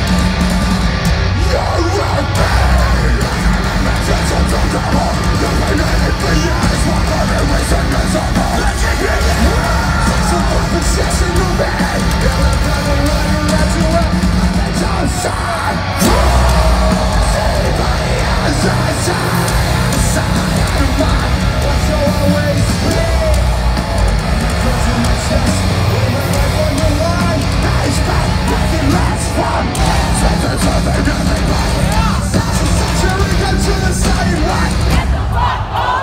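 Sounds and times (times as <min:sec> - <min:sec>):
live heavy rock band: 0:00.0 - 0:36.0
yelled vocals: 0:00.0 - 0:36.0.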